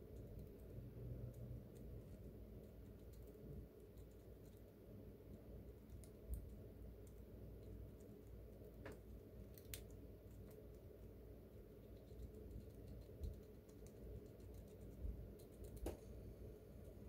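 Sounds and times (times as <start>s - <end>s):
chipmunk gnawing a seed: 0.0s - 17.0s.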